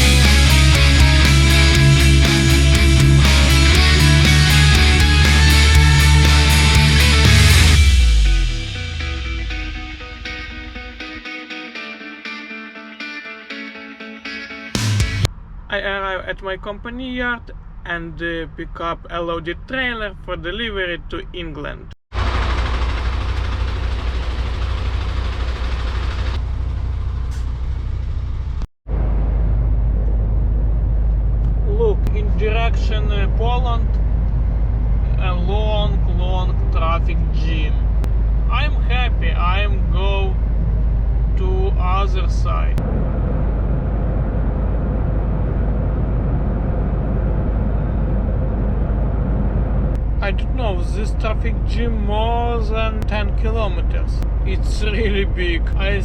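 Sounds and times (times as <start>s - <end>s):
lorry engine drone: 0.0s - 15.7s, 22.2s - 56.0s
road noise: 0.0s - 56.0s.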